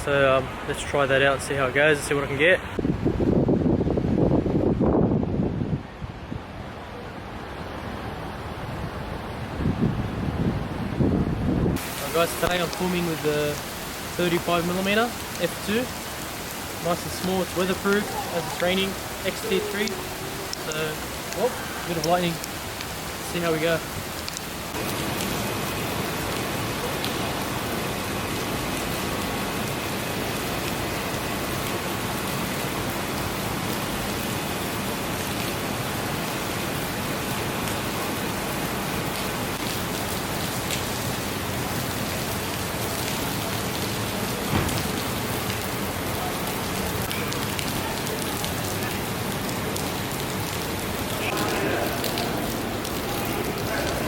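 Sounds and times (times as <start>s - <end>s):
rain on hard surfaces: 0.0s - 54.0s.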